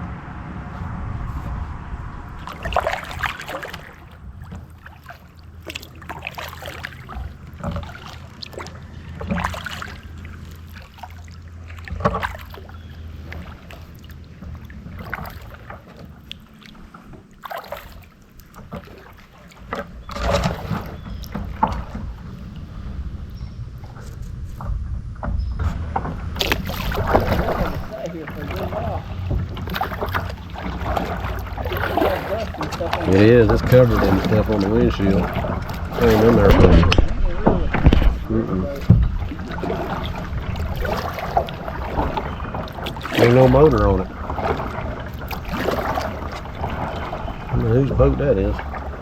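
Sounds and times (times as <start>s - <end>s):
steady low rumble: 0.0s - 15.7s, 21.1s - 49.0s
paddle splashing in water: 0.0s - 49.0s.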